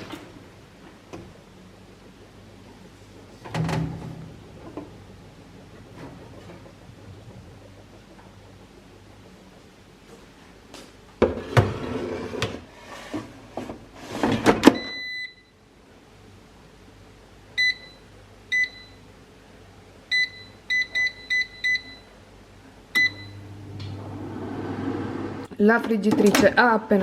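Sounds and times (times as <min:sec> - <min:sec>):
air fryer fan humming: 0:00.0 - 0:12.8, 0:13.4 - 0:27.0.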